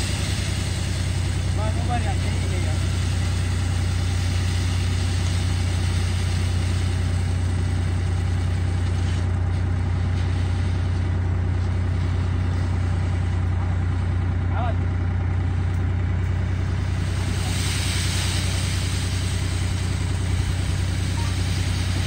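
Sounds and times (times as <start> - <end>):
thresher humming: 0.0 - 22.0.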